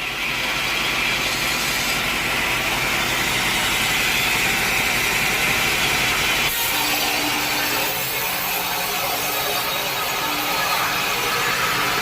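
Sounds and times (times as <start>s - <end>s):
sawmill machinery running: 0.0s - 12.0s.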